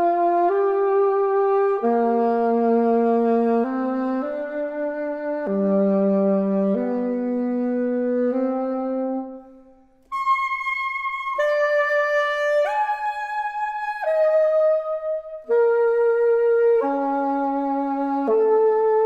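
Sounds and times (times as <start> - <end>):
alto saxophone long notes: 0.0 - 19.0.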